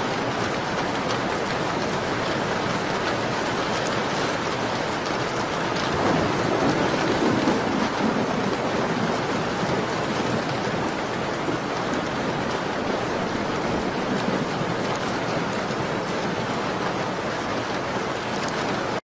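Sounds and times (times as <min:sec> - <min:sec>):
rain pattering on a window: 0:00.0 - 0:19.0.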